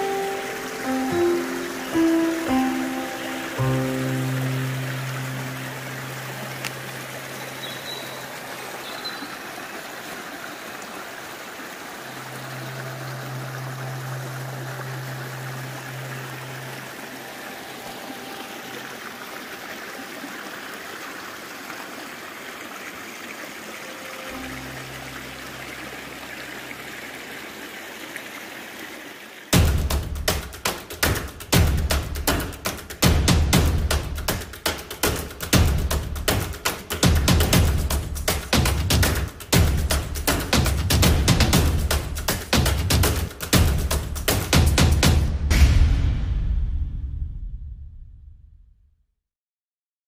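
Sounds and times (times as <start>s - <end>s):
running water rushing: 0.0s - 45.4s.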